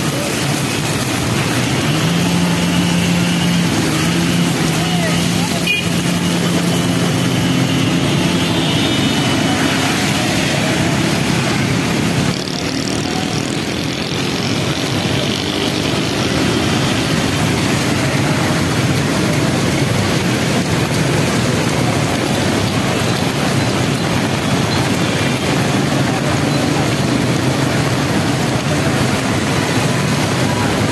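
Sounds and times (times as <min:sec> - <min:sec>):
heavy rain hiss: 0:00.0 - 0:30.9
tyres through standing water: 0:00.0 - 0:30.9
vehicle engines running: 0:00.0 - 0:30.9.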